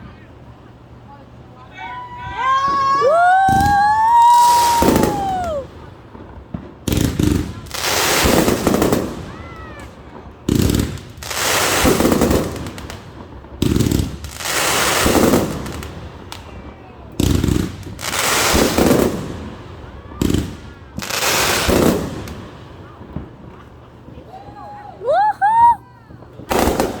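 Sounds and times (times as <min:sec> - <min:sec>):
firework sharp reports: 0:00.0 - 0:27.0
whistling firework: 0:01.7 - 0:27.0
firework crackling burst: 0:02.0 - 0:27.0.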